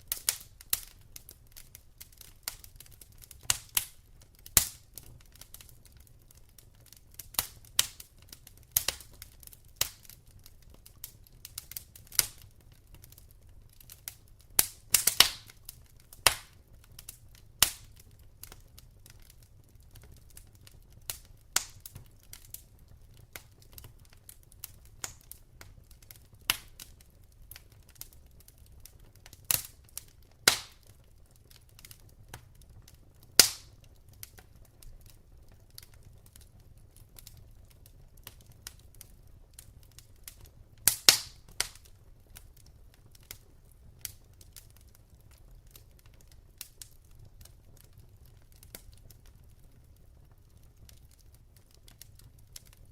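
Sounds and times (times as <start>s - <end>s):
logs crackling in fireplace: 0.0s - 52.9s.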